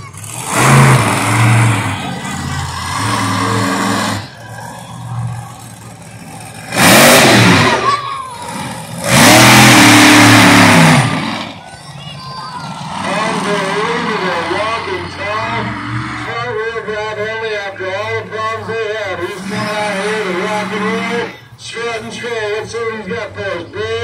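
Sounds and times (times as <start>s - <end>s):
monster truck engine revving: 0.0s - 17.5s, 18.2s - 21.6s.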